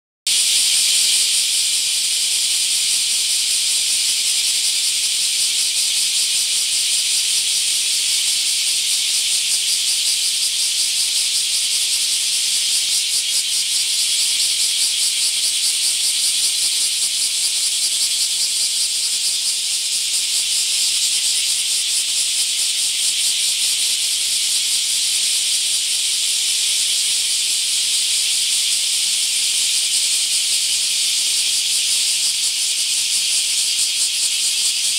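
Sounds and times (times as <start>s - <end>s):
cicadas buzzing: 0.3s - 34.9s.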